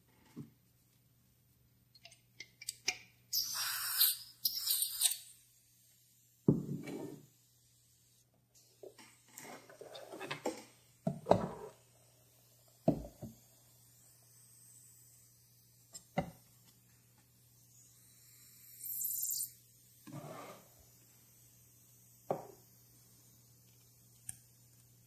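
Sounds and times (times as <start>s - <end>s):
lighter gas hissing: 3.3s - 25.0s.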